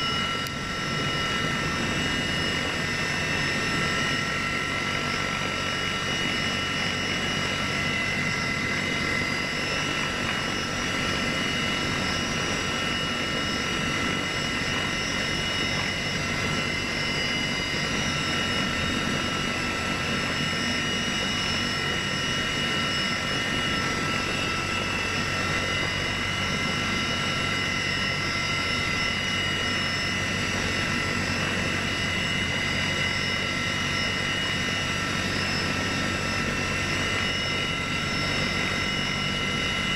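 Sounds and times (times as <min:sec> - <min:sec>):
helicopter engines and rotors: 0:00.0 - 0:39.9.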